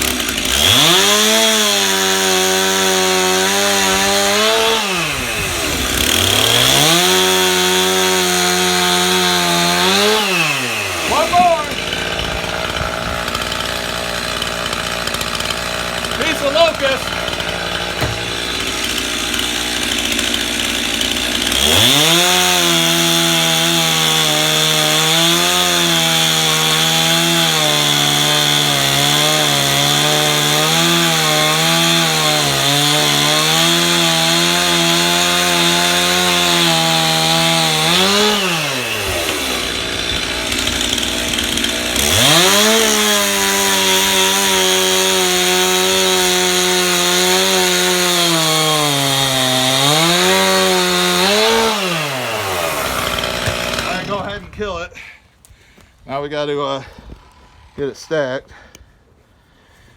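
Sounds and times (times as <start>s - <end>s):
chainsaw idling and revving: 0.0s - 54.9s.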